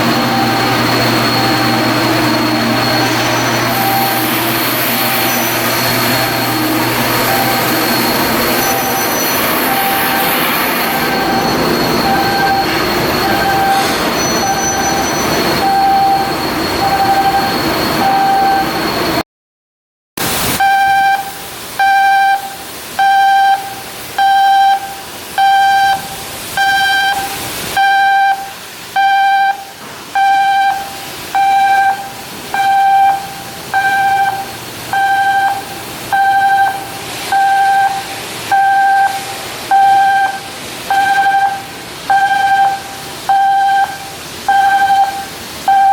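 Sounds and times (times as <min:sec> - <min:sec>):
electronic warning beeper: 0:00.0 - 0:19.2, 0:20.6 - 0:45.9
machinery noise: 0:00.0 - 0:19.2, 0:20.2 - 0:45.9.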